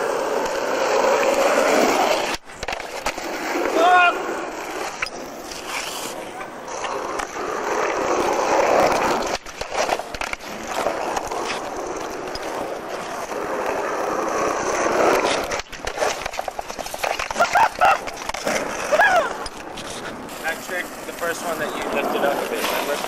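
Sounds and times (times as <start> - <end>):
skateboard wheels rolling on asphalt: 0.0 - 23.0.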